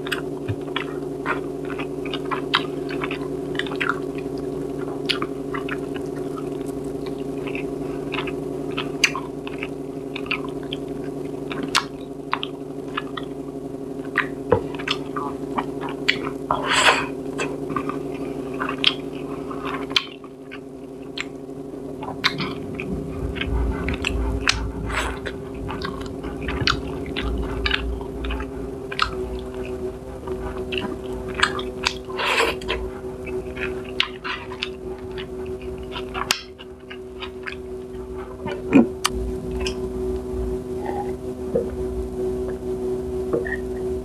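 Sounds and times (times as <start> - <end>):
person chewing food: 0.0 - 39.8
steady low hum: 0.0 - 44.0.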